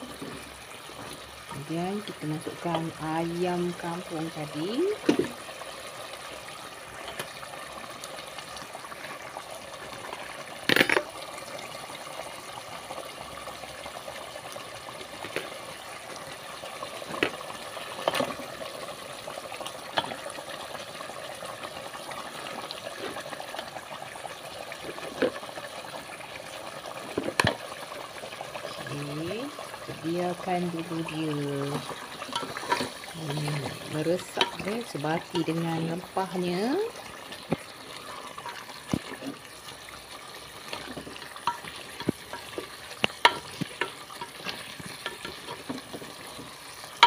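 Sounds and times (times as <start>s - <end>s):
curry sauce bubbling and sizzling: 0.0s - 47.0s.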